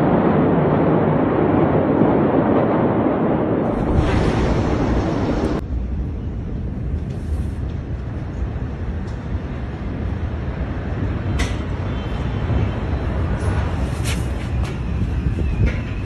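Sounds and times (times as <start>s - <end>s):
low rumbling outdoor noise: 0.0s - 16.0s.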